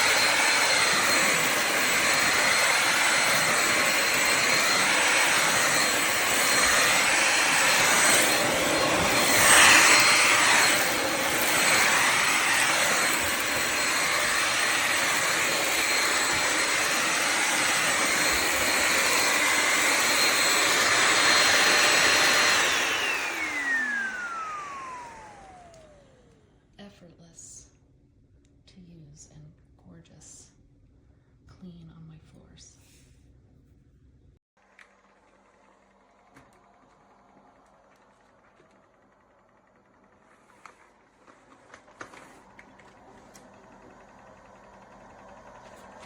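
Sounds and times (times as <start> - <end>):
vacuum motor whining: 0.0 - 26.5, 34.8 - 46.0.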